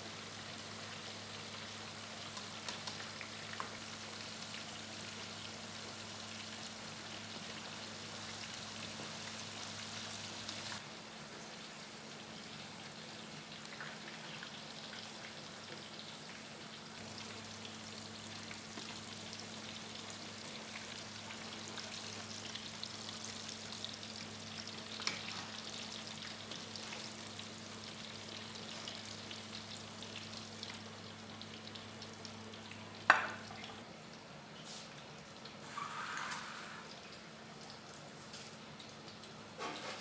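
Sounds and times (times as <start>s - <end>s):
food sizzling in hot oil: 0.0s - 33.8s.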